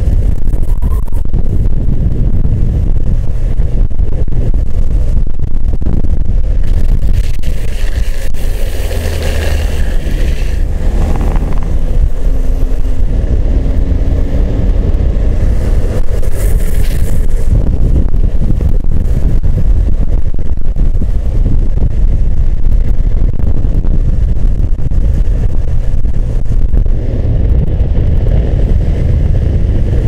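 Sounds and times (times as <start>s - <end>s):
low road rumble: 0.0s - 30.0s
wind buffeting microphone: 0.0s - 30.0s.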